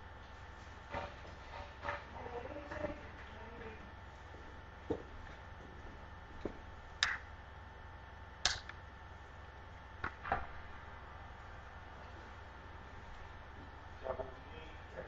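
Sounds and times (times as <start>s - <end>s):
low hum of a hall: 0.0s - 15.0s.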